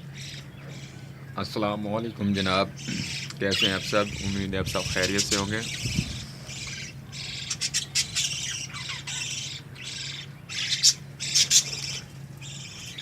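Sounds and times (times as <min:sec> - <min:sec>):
budgerigars chattering and squawking: 0:00.0 - 0:13.0
faint low hum: 0:00.0 - 0:13.0.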